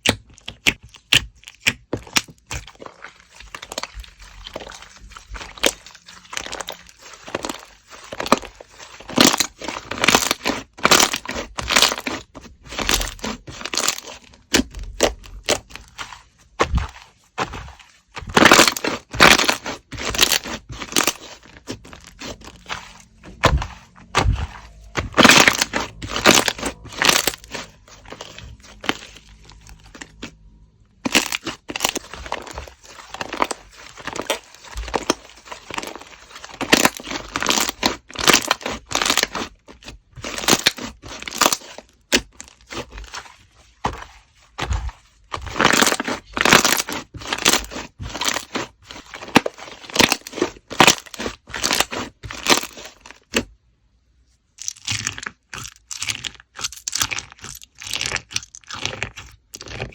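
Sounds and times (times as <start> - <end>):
slime crackling and popping: 0.0 - 53.4, 54.6 - 59.9.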